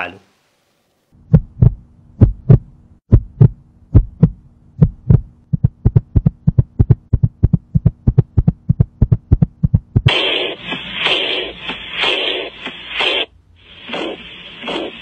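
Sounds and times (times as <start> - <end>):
heartbeat through stethoscope: 1.2 - 15.0.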